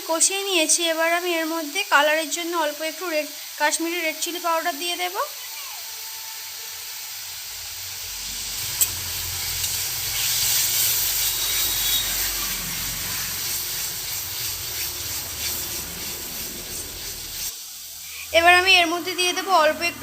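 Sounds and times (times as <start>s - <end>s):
paste sizzling in hot oil: 0.0s - 20.0s.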